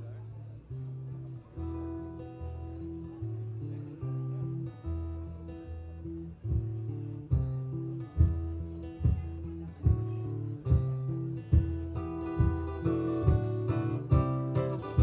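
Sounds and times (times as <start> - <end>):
acoustic guitar strumming chords: 1.8 - 15.0.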